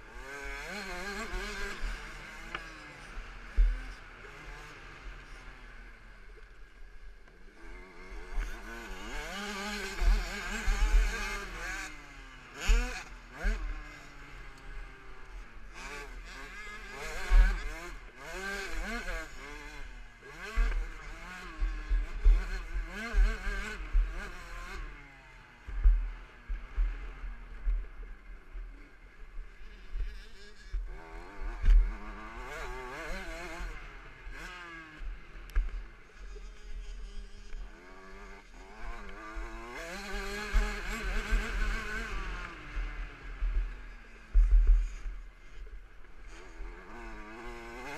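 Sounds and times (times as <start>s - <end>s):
motorbike engine revving: 0.1s - 5.9s, 7.5s - 47.9s.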